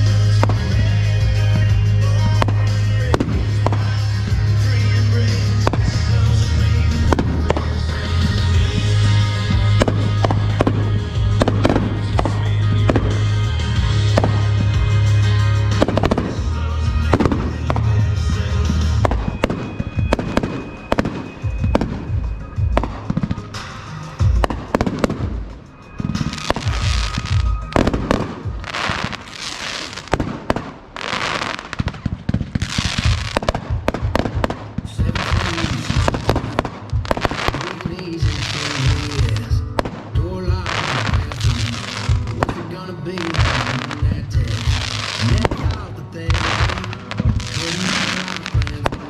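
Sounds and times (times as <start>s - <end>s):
background music: 0.0s - 49.0s
fireworks bangs: 0.0s - 49.0s
fireworks hissing: 0.0s - 49.0s.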